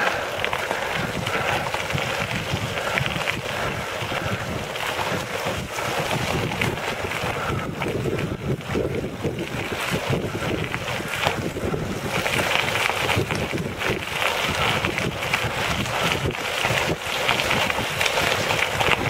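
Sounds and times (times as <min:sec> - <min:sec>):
tyres crunching on gravel: 0:00.0 - 0:19.0
wind on microphone: 0:00.0 - 0:19.0.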